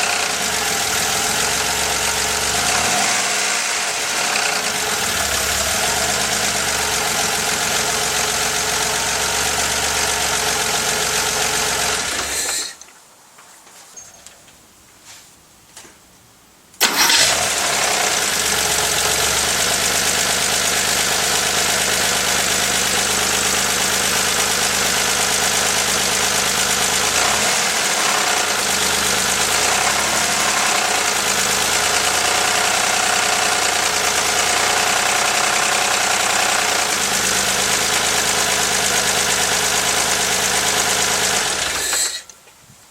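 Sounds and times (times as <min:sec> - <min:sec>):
engine knocking: 0:00.0 - 0:12.5, 0:16.9 - 0:42.2
car engine starting and idling: 0:00.0 - 0:12.8, 0:16.8 - 0:42.2.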